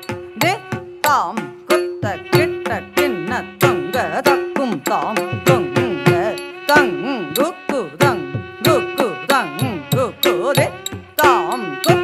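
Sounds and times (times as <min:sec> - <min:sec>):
ornamented sliding melody: 0:00.0 - 0:12.0.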